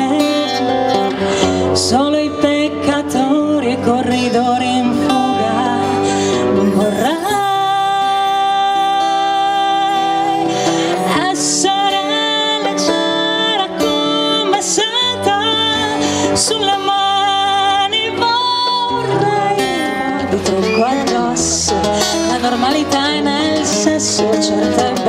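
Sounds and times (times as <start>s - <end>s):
strummed acoustic guitar: 0.0s - 25.0s
woman singing: 0.0s - 25.0s.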